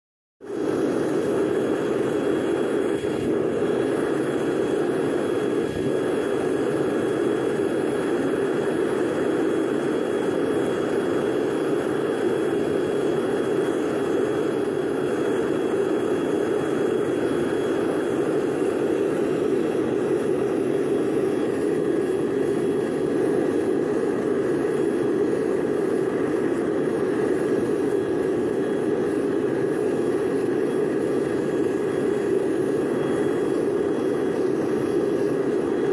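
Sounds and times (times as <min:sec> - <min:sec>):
furnace burner rushing: 0:00.4 - 0:35.9.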